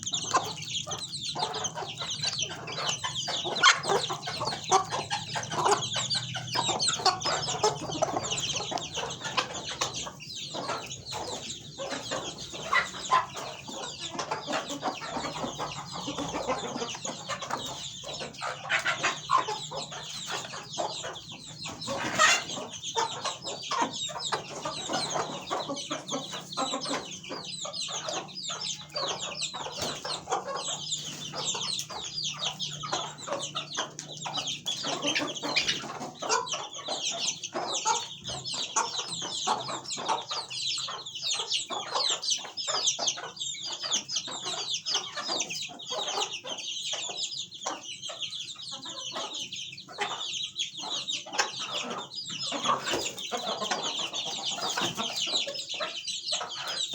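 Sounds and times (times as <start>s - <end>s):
chickens clucking: 0.0s - 56.9s.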